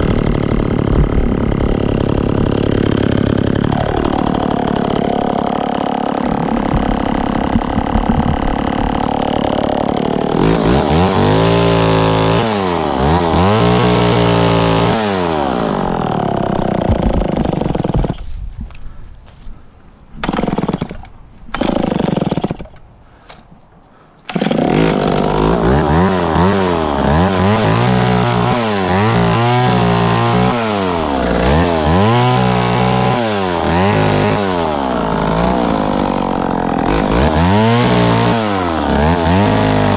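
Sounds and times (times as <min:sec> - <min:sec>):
chainsaw cutting: 0:00.0 - 0:19.6, 0:20.2 - 0:39.9.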